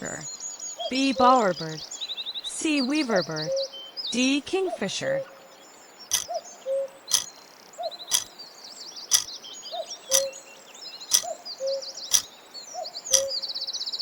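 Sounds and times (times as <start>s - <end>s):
birds chirping: 0.0s - 13.5s.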